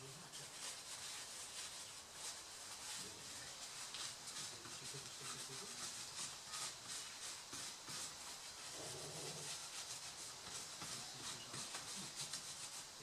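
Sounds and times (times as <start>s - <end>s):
cloth rubbing on circuit board: 0.0s - 13.0s.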